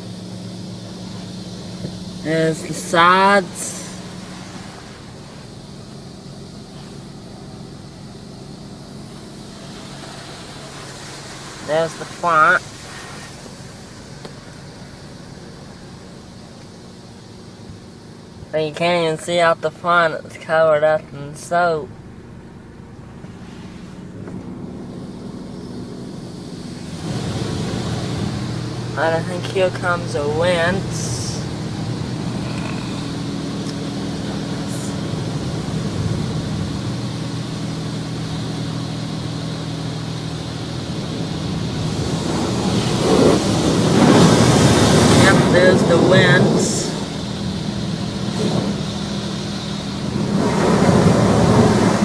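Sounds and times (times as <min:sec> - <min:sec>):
car wash rushing noise: 0:00.0 - 0:52.0
low even hum: 0:00.0 - 0:52.0.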